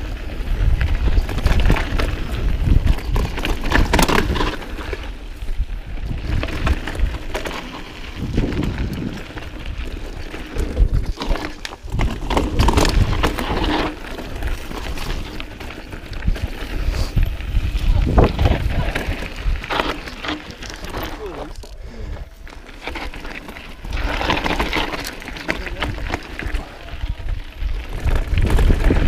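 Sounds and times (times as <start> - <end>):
bike rattling over bumps: 0.0 - 29.0
tyres on loose dirt and stones: 0.0 - 29.0
wind rumbling on microphone: 0.0 - 29.0.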